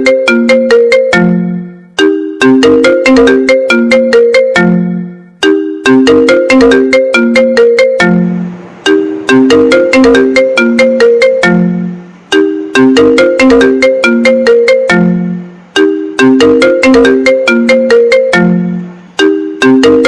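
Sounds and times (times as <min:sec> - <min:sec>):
looping ringtone-like melody: 0:00.0 - 0:20.0.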